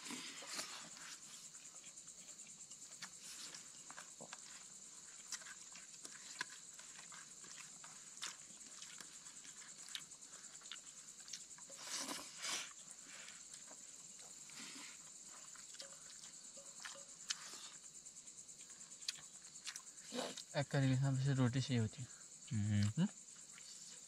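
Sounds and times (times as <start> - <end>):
people eating off plates: 0.0 - 21.0
night insects chirring: 0.0 - 24.0.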